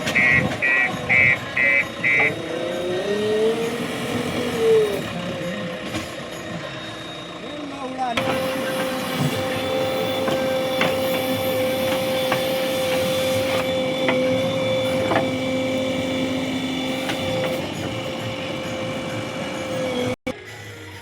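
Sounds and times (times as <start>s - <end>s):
backhoe engine running: 0.0s - 20.3s
steady whine: 0.0s - 20.3s.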